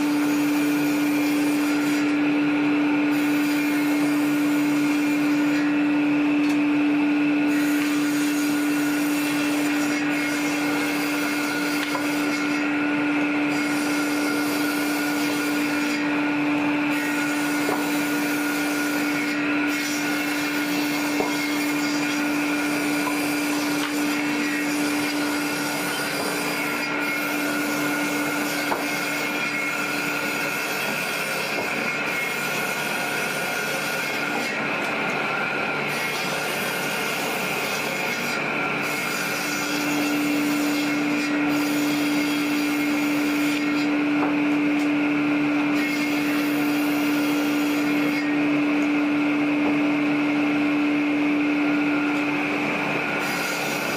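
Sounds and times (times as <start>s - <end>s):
sawmill machinery hum: 0.0s - 53.9s.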